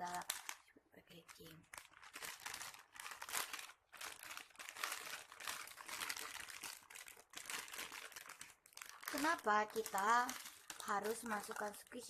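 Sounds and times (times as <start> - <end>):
plastic bag crackling: 0.0 - 12.0.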